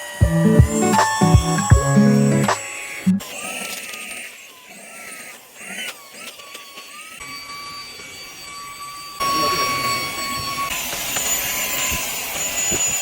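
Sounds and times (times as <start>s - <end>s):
handheld vacuum cleaner whine: 0.0s - 13.0s.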